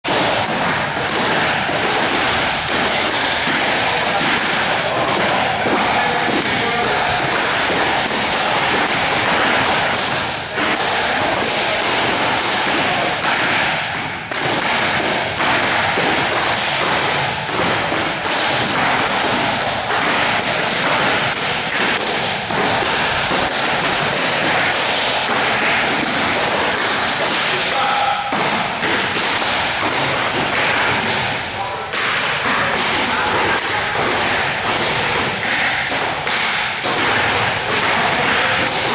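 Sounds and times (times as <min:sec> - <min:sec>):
kicks and punches hitting pads: 0:00.1 - 0:27.6, 0:28.3 - 0:38.9.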